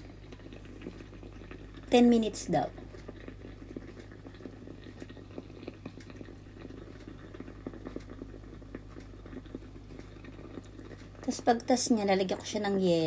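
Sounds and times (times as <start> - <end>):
steady low hum: 0.0 - 13.0
water bubbling: 0.0 - 13.0.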